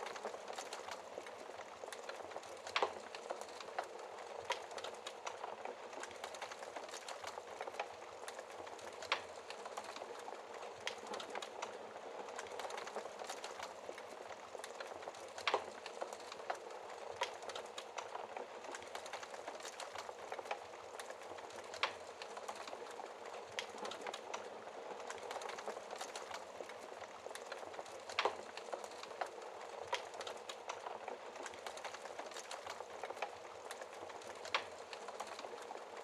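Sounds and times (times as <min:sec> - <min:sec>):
loud fire snaps: 0:00.0 - 0:36.0
wood fire crackling: 0:00.0 - 0:36.0.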